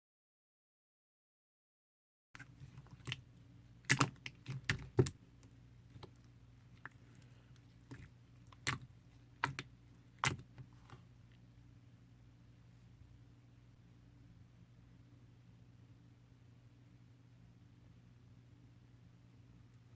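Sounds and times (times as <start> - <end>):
low steady hum: 2.4 - 19.9.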